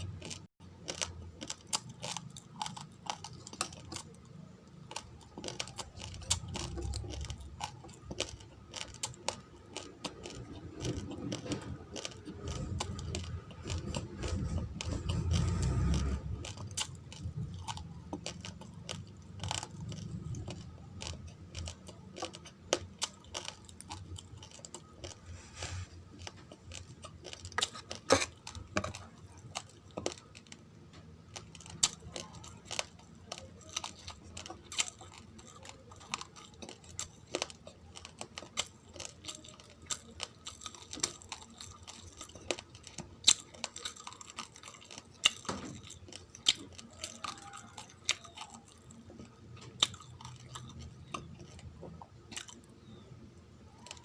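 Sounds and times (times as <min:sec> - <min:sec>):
chewing raw rice grains: 0:00.0 - 0:54.0.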